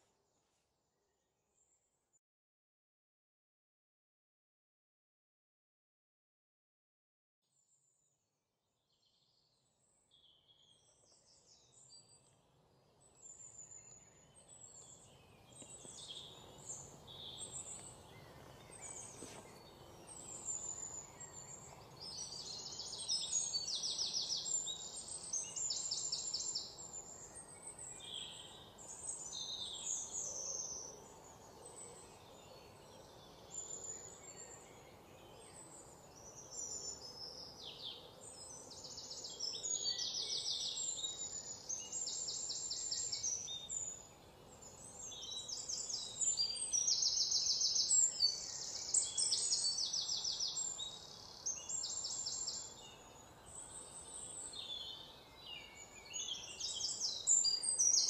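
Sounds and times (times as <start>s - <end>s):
low steady hiss: 8.8s - 58.0s
birds chirping and trilling: 9.4s - 58.0s.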